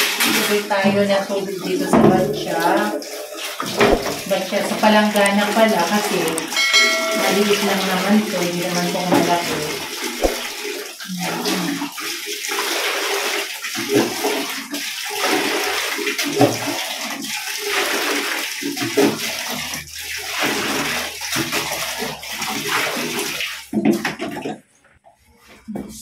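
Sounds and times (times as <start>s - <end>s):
water pouring into plastic basin: 0.0s - 25.7s
dipper scooping water from bucket: 0.0s - 25.9s.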